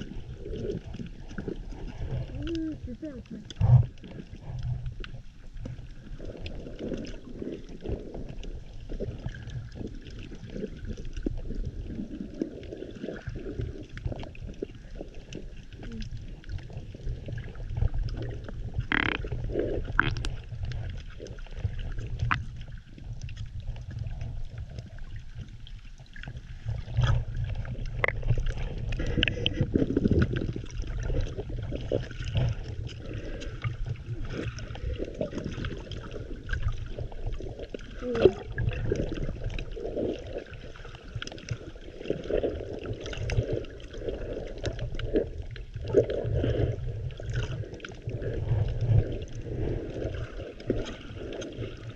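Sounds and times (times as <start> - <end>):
muffled underwater sloshing: 0.0 - 51.9.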